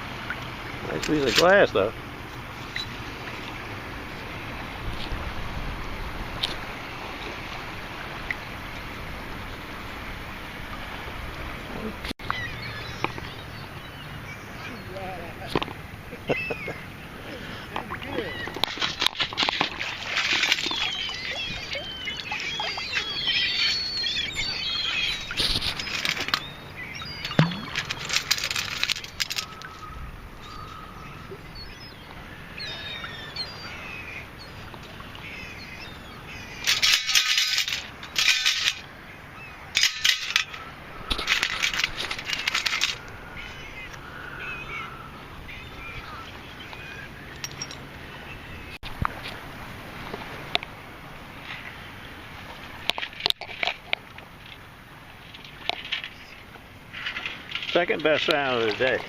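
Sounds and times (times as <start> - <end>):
birds chirping: 0.0 - 49.4, 50.0 - 59.0.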